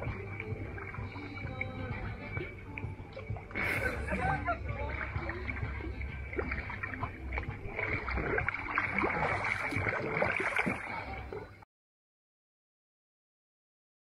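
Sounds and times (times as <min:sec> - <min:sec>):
pool water splashing: 0:00.0 - 0:11.6.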